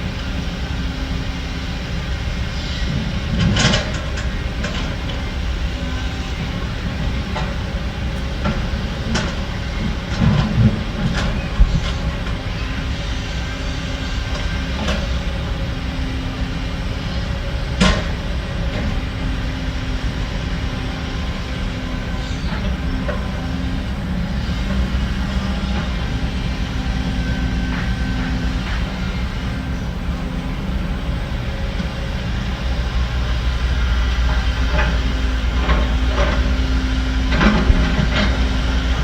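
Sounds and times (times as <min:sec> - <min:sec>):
heavy machinery engine running: 0:00.0 - 0:39.0.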